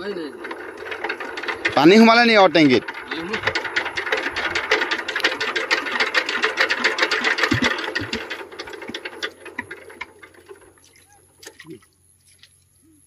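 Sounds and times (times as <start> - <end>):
diesel engine knocking: 0.0 - 10.8.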